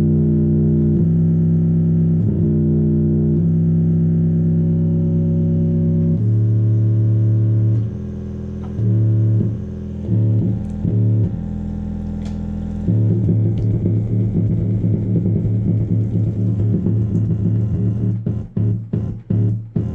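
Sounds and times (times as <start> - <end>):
deep synth bass notes: 0.0 - 19.9.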